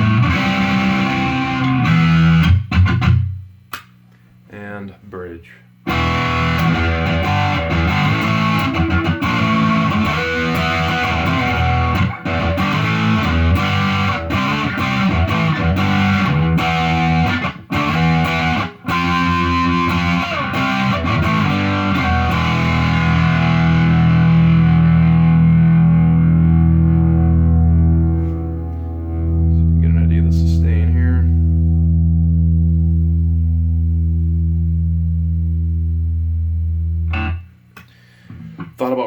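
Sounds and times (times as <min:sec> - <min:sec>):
distorted electric guitar riffs: 0:00.0 - 0:03.5, 0:05.8 - 0:39.0.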